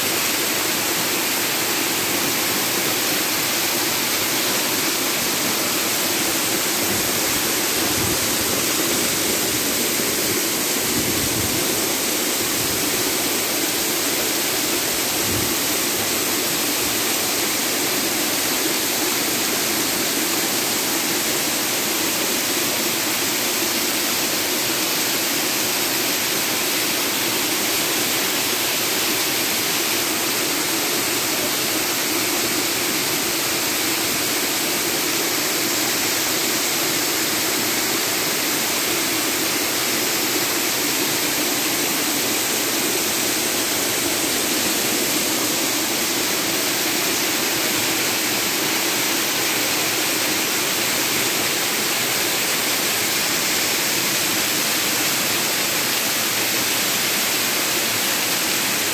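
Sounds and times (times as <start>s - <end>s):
waterfall rushing over rock: 0.0s - 58.9s.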